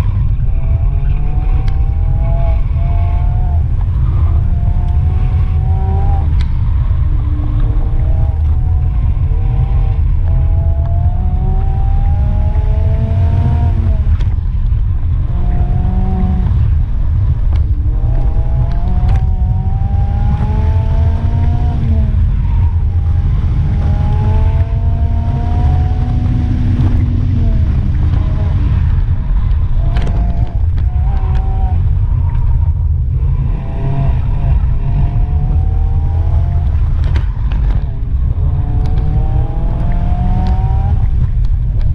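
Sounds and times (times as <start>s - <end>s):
car engine revving: 0.0s - 41.9s
wind rumbling on microphone: 0.0s - 41.9s.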